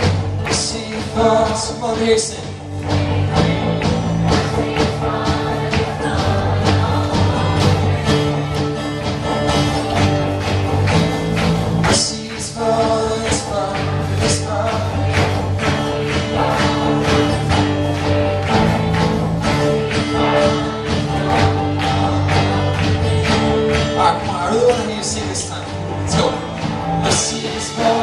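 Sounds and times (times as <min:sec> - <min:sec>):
voices singing along: 0:00.0 - 0:10.2, 0:11.3 - 0:28.0
drum beat: 0:00.0 - 0:28.0
live band playing: 0:00.0 - 0:28.0.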